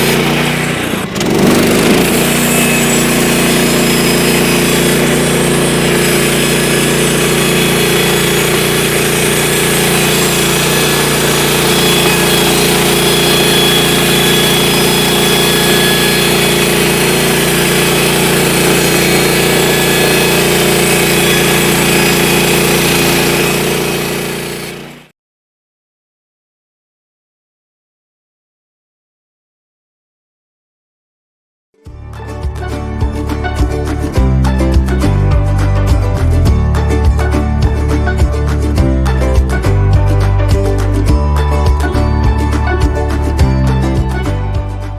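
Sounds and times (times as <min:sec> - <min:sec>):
gas engine running: 0:00.0 - 0:25.1, 0:31.9 - 0:44.9
saw blade whining: 0:00.0 - 0:25.1, 0:31.9 - 0:44.9.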